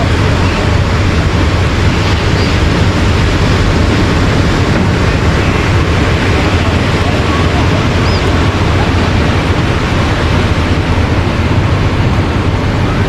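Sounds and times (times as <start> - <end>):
ocean surf: 0.0 - 13.0
wind noise on microphone: 0.0 - 13.0.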